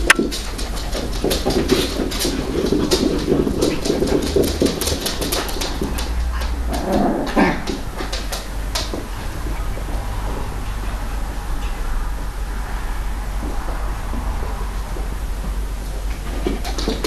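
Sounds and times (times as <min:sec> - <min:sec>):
puppies play growling: 0:00.0 - 0:17.0.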